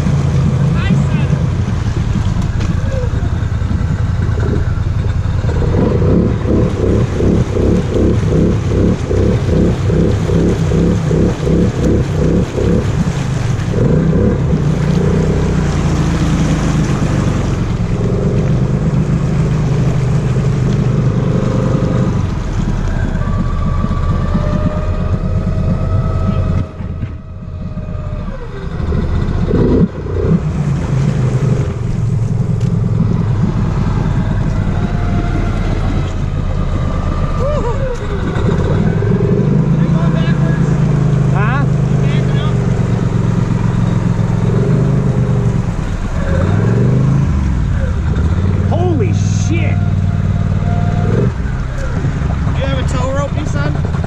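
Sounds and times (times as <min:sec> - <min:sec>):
atv engine revving: 0:00.0 - 0:54.0
tires spinning in mud: 0:00.0 - 0:54.0.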